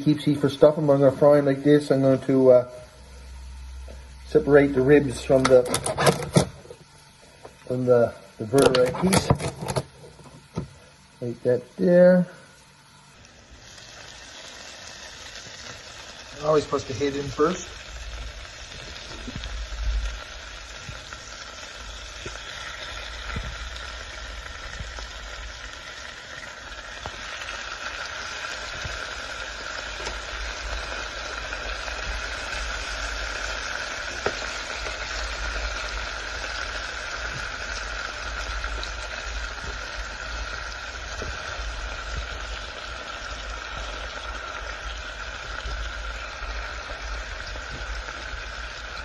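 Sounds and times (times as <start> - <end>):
onion and meat sizzling in oil: 0.0 - 49.0.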